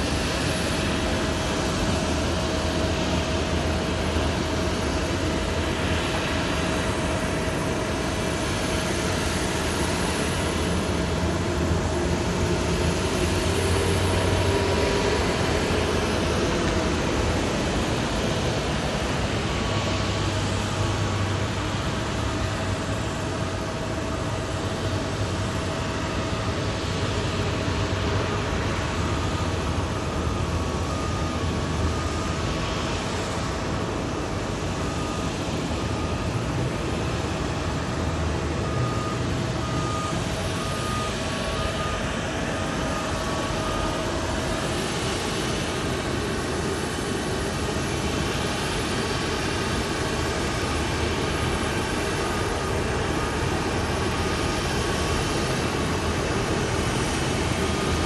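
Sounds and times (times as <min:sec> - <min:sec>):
jet and ground vehicle roar: 0:00.0 - 0:58.0.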